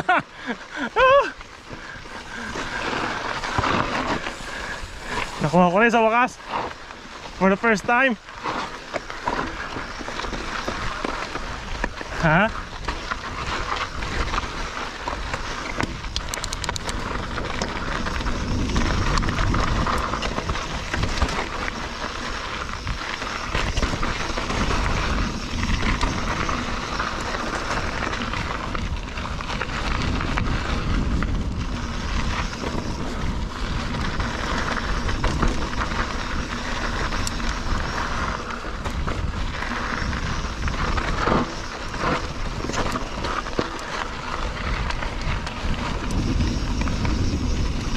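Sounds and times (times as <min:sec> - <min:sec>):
bike rattling over bumps: 0:00.0 - 0:47.9
bike tyres rumbling on dirt: 0:00.0 - 0:47.9.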